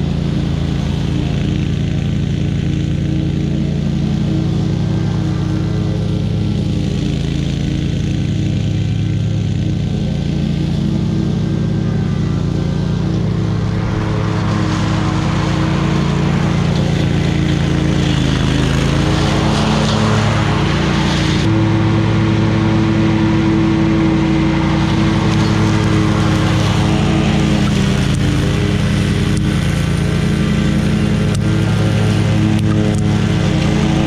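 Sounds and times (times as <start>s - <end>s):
mower engine cutting grass: 0.0s - 34.0s.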